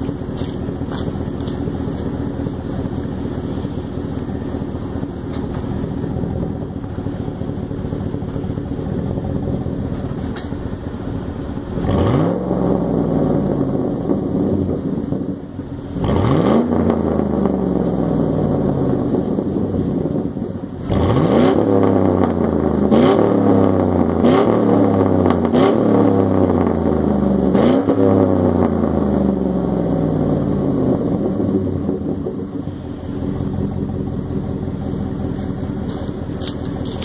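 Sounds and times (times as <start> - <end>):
engine idling and revving: 0.0 - 37.0.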